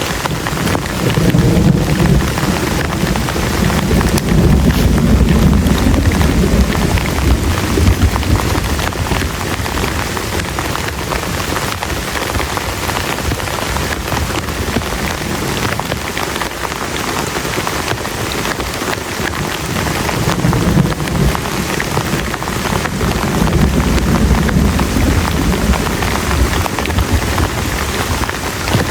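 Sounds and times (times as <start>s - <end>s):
heavy rain falling: 0.0s - 28.9s
thunder rumbling: 0.0s - 28.9s.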